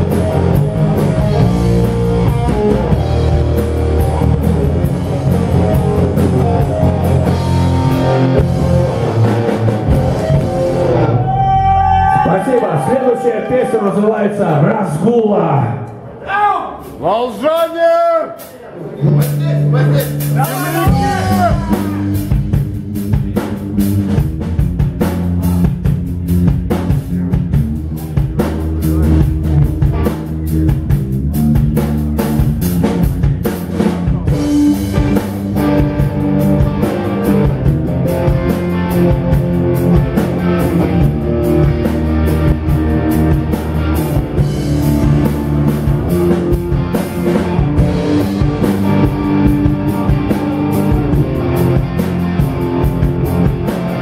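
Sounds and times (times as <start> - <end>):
rock band playing live: 0.0 - 15.2, 16.7 - 54.0.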